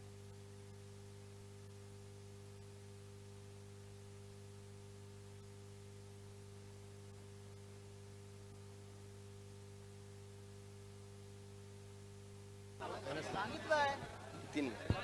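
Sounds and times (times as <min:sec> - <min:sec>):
faint mains hum with hiss: 0:00.0 - 0:15.0.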